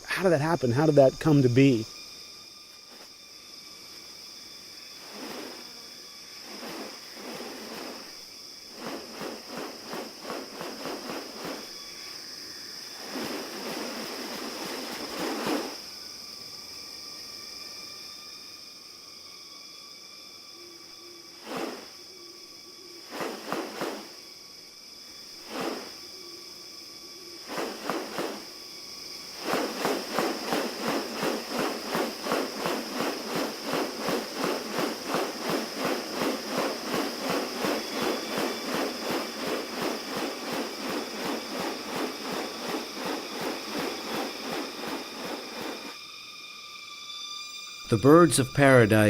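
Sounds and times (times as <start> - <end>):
high insect drone: 0.0 - 49.0.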